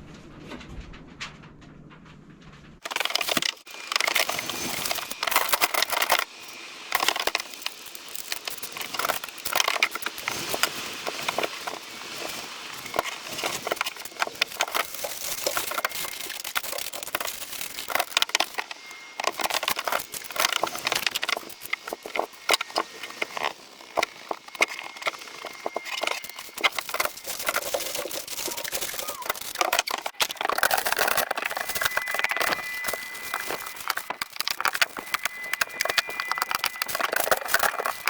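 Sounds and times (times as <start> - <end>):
crinkling and rustling: 0.0 - 38.0.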